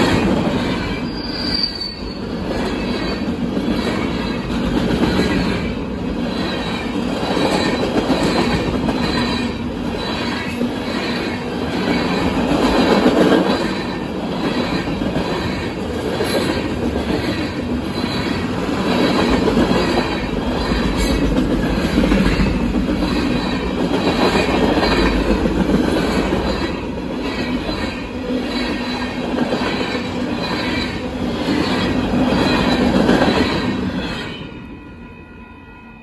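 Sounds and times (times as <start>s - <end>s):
freight train wheels clacking: 0.0s - 34.5s.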